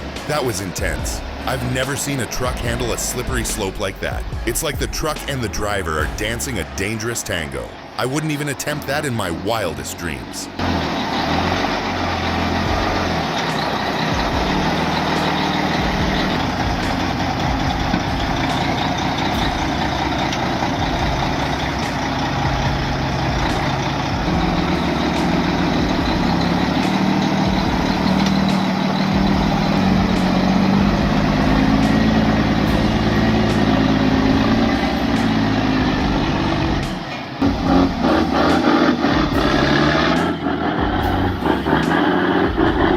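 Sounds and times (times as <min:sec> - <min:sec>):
heavy truck engine under load: 0:00.0 - 0:42.9.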